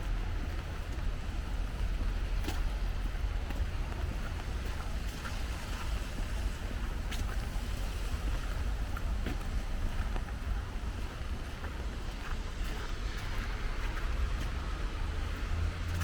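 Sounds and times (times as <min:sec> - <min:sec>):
rain: 0:00.0 - 0:16.0
wet street noise: 0:00.0 - 0:16.0.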